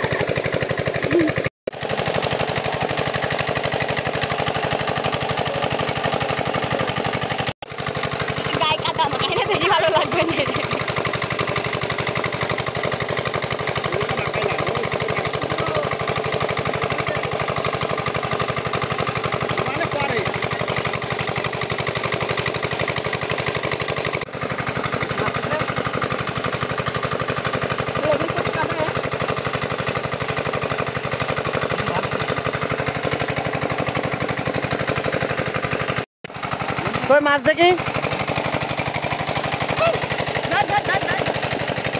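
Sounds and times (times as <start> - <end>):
small engine idling: 0.0 - 41.9.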